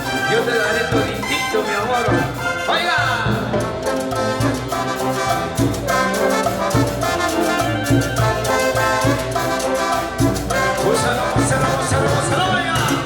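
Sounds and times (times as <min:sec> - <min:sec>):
brass band playing cumbia: 0:00.0 - 0:13.0.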